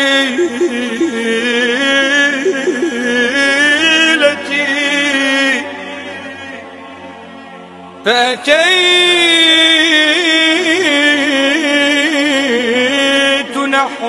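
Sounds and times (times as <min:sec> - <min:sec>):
man singing unaccompanied: 0:00.0 - 0:06.7, 0:08.0 - 0:14.0.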